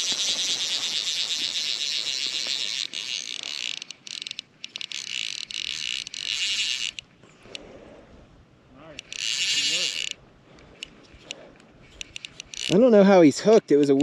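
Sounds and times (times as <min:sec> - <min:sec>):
fishing reel drag clicking: 0:00.0 - 0:07.7, 0:08.8 - 0:13.0.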